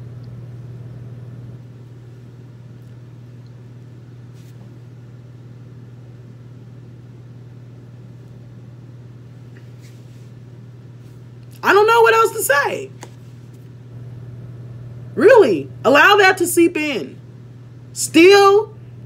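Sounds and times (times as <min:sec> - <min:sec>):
low hum of room machinery: 0:00.0 - 0:19.0.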